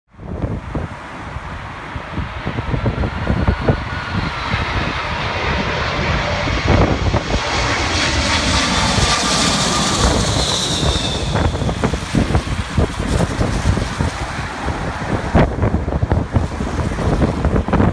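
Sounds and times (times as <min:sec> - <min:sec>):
wind buffeting microphone: 0:00.1 - 0:17.9
jet engines roaring: 0:00.2 - 0:17.9
high jet whine: 0:01.3 - 0:17.9.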